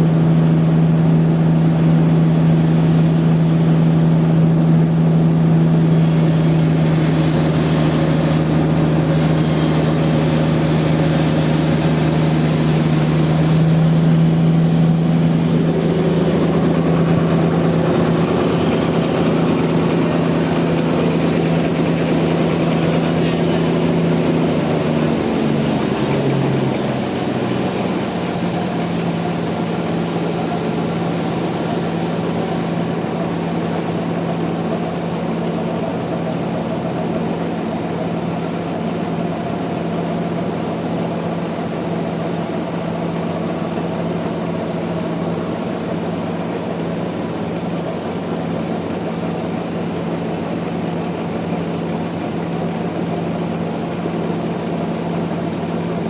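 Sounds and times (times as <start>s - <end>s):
sawmill machinery hum: 0.0s - 56.0s.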